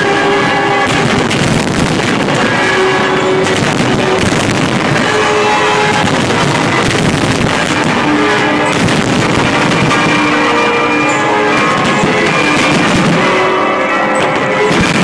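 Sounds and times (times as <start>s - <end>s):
fireworks bangs and crackles: 0.0s - 15.0s
music with long held notes: 0.0s - 15.0s.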